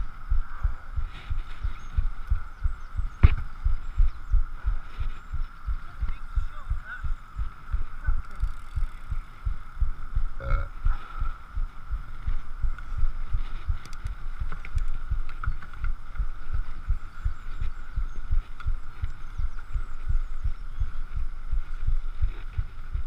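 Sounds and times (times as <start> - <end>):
steady mid-pitched hum: 0.0 - 23.0.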